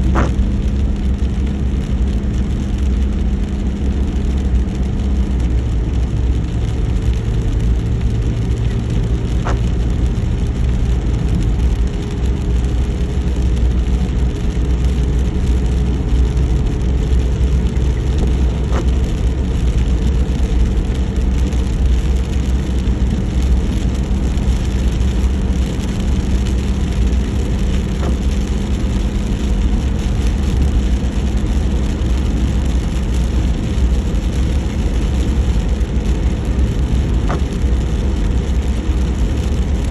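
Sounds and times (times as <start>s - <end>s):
car engine and road rumble: 0.0s - 39.9s
rain noise: 0.0s - 39.9s.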